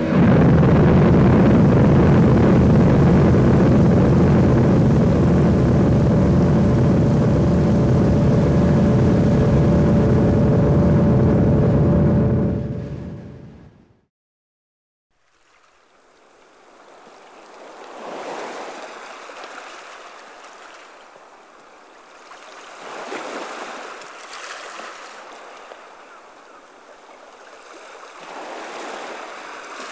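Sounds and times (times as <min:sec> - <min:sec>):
water waves washing: 0:00.0 - 0:13.0, 0:15.2 - 0:29.9.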